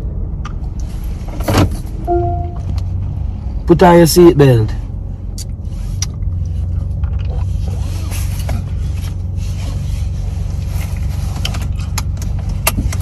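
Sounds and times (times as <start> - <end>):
car engine rumble in cabin: 0.0 - 13.0.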